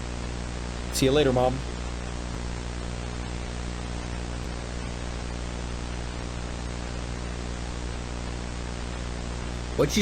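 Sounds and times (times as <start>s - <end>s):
static hiss: 0.0s - 10.0s.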